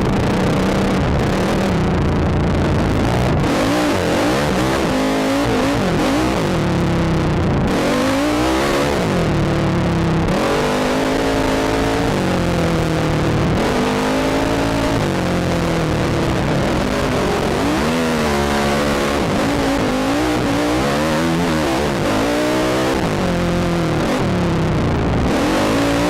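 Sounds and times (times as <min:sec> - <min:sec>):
engine revving: 0:00.0 - 0:26.0
steady rushing noise: 0:00.0 - 0:26.0.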